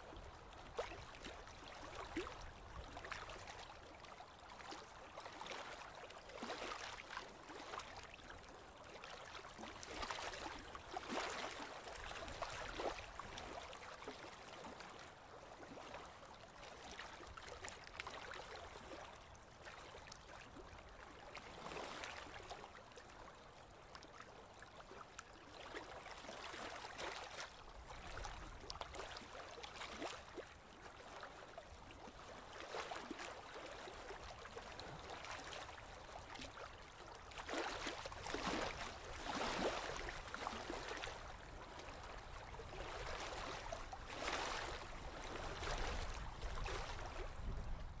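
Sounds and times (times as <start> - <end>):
small waves lapping and splashing: 0.0 - 48.0.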